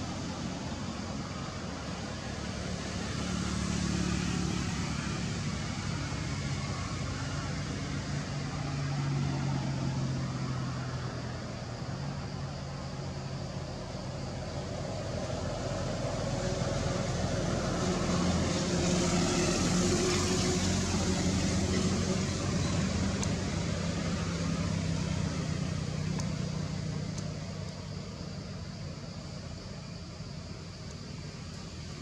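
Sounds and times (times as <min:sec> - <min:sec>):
vehicle engine passing by: 0:00.0 - 0:32.0.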